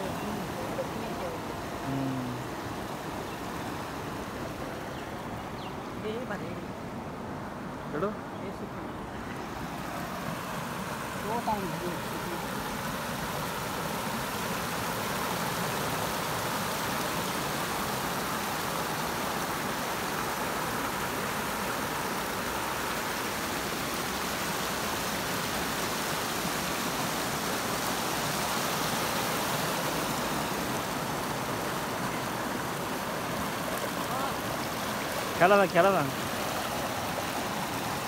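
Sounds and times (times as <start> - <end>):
floodwater rushing over wall: 0.0 - 6.9, 7.5 - 38.0.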